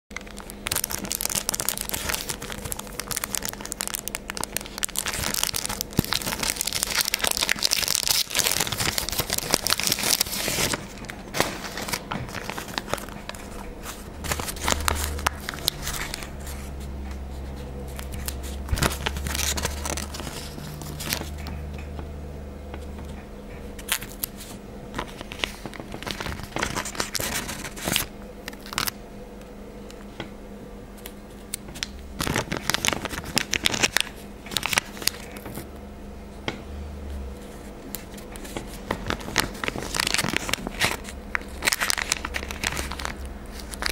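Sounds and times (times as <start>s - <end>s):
sticker sheet crinkling: 0.1s - 21.6s, 23.8s - 28.9s, 31.8s - 35.6s, 37.4s - 43.9s
low hum: 0.1s - 43.9s.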